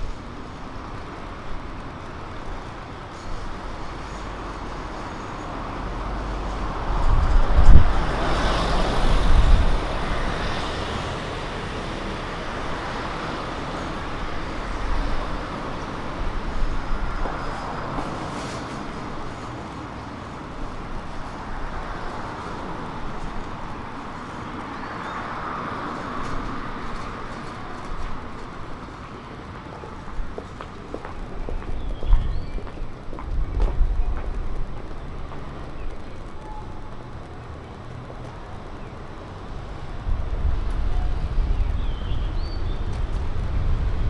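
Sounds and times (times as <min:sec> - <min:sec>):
background traffic noise: 0:00.0 - 0:44.0.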